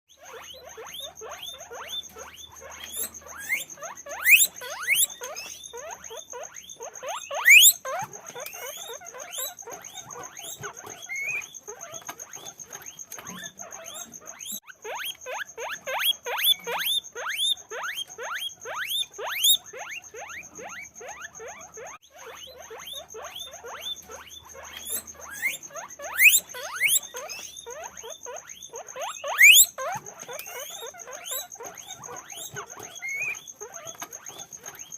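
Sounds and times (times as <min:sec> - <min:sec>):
guinea pigs squeaking: 0:00.1 - 0:34.9
whistling wheeks: 0:00.1 - 0:34.9.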